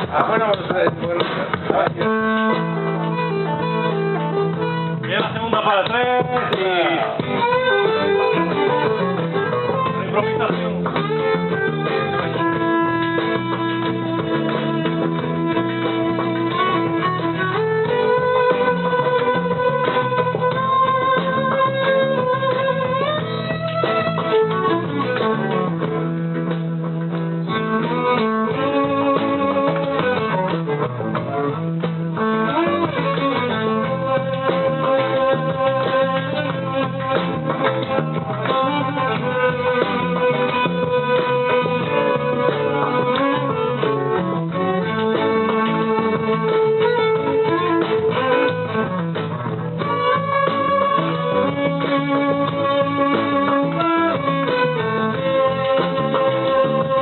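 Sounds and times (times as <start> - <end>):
band melody line: 0.0 - 57.0
guitar chords: 0.0 - 57.0.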